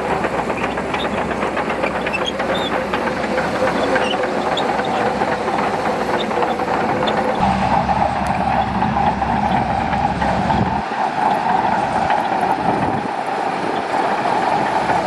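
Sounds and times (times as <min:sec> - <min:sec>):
bulldozer diesel engine running: 0:00.0 - 0:15.0
steel tracks rattling and clanking: 0:00.0 - 0:15.0.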